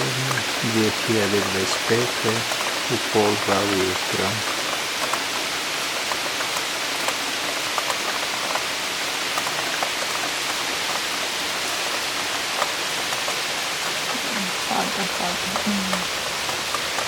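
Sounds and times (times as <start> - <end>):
heavy rain hissing: 0.0 - 17.0
sharp raindrop impacts: 0.0 - 17.0.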